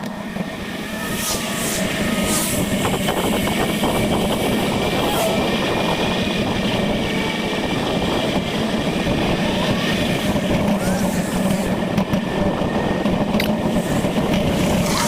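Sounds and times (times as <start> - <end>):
wind on microphone: 0.1 - 15.0.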